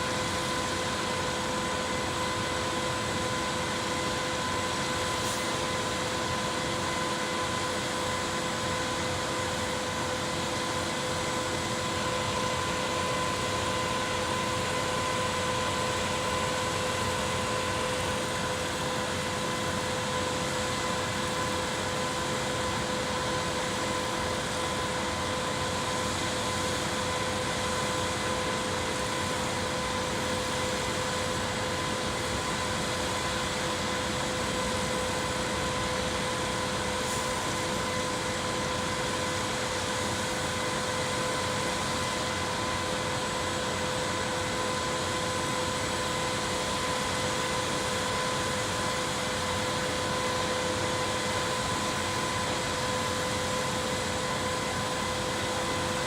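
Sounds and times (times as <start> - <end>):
concrete pump engine droning: 0.0 - 56.0.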